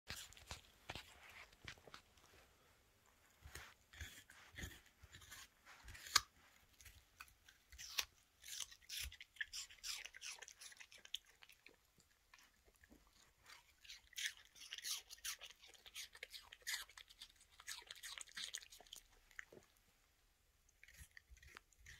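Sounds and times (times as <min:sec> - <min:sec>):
dog crunching apple: 0:00.1 - 0:02.0, 0:03.4 - 0:19.7, 0:20.7 - 0:21.9.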